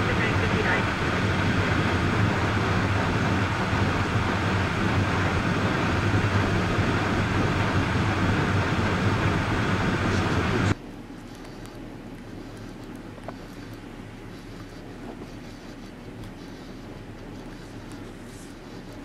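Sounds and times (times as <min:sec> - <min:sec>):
moving vehicle running noise: 0:00.0 - 0:19.0.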